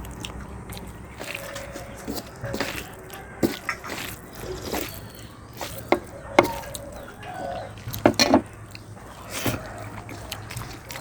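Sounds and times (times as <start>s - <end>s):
crisp food crunching: 0.0s - 11.0s.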